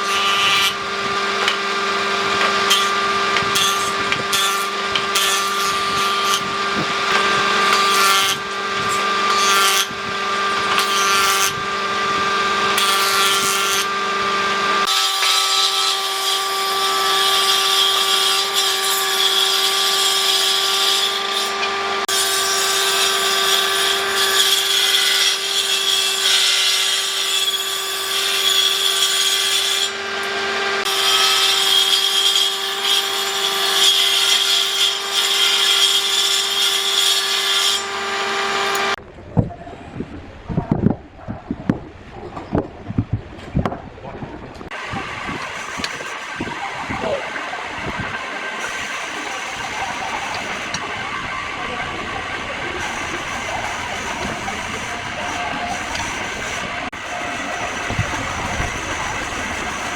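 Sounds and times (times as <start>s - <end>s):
power tool cutting wood: 0.0s - 39.0s, 44.6s - 59.9s.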